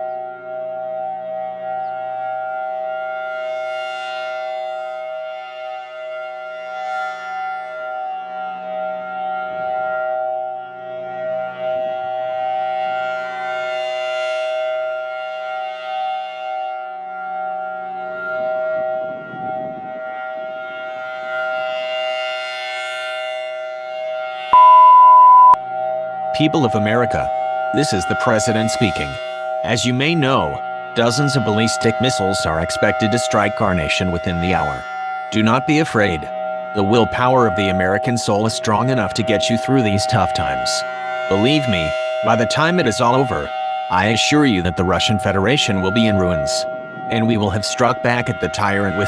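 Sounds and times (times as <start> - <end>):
siren steady alert tone: 0.0 - 49.0.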